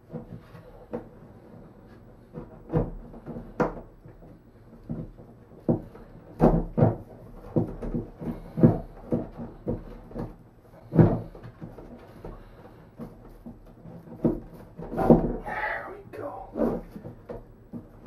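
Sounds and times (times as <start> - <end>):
knocks and clunks on fiberglass floor: 0.0 - 15.5, 16.5 - 18.0.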